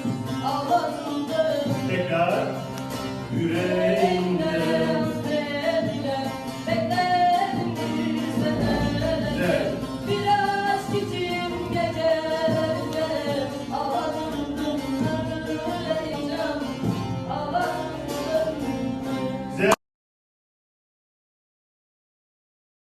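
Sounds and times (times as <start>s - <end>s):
backing music: 0.0s - 19.8s.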